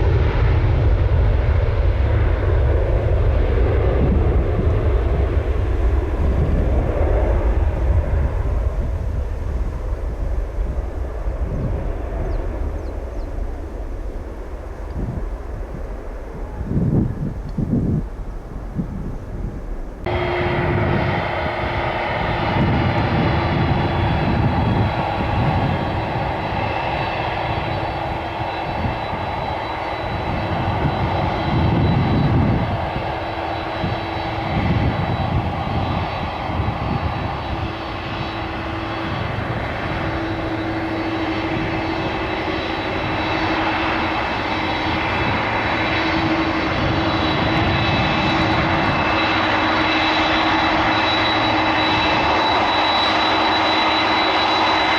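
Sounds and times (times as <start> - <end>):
jet engines at takeoff power: 0.0 - 54.9.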